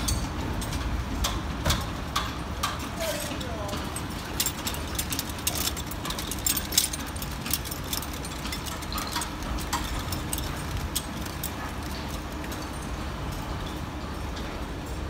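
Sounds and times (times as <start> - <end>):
hand tools clicking and clanking: 0.0 - 15.0.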